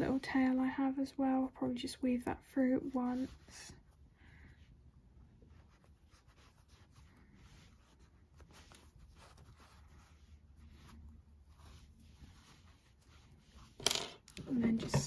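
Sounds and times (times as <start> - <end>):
yarn rustling through fabric: 0.0 - 15.0.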